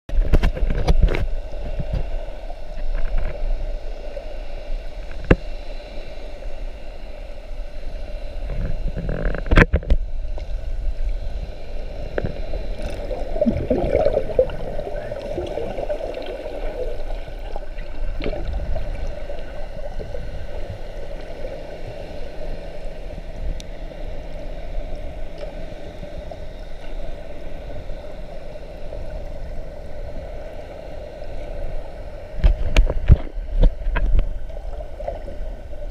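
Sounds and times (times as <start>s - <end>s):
muffled underwater sloshing and bubbling: 0.1s - 35.9s
steady low hum: 0.1s - 35.9s.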